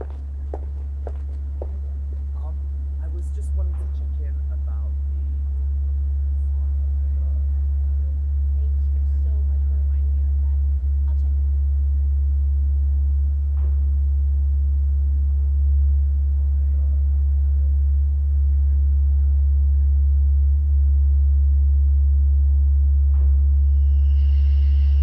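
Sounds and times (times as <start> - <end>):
loud low hum: 0.0 - 25.0.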